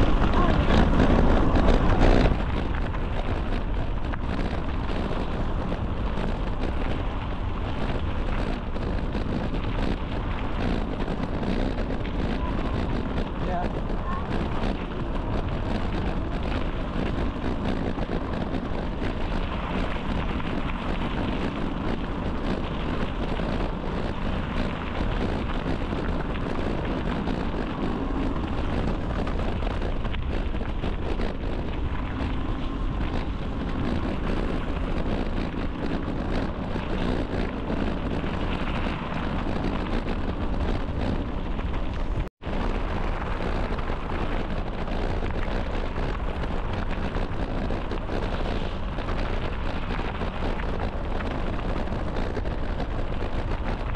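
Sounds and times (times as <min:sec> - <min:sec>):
wind rushing over microphone: 0:00.0 - 0:53.9.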